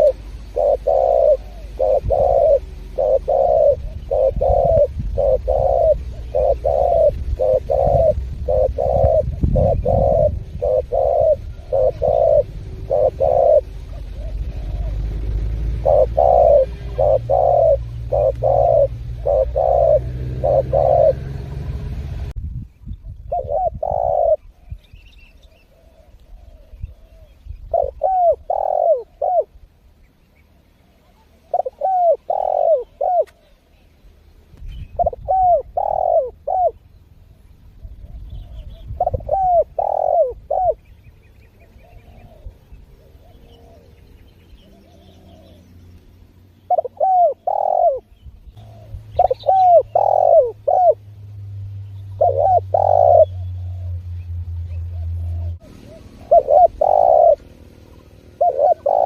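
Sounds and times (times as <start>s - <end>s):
doves cooing: 0.0s - 22.3s, 23.2s - 29.8s, 30.5s - 33.9s, 34.8s - 59.0s.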